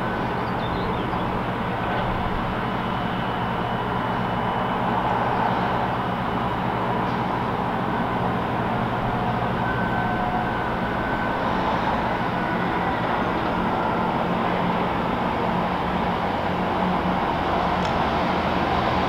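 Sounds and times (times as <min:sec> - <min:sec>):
diesel locomotive engine humming: 0:00.0 - 0:19.0.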